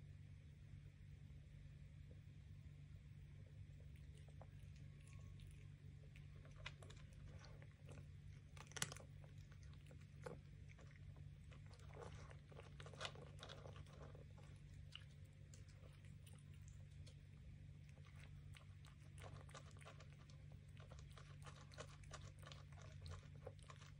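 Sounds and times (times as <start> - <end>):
low hum: 0.0 - 23.9
cat chewing food: 2.1 - 23.9.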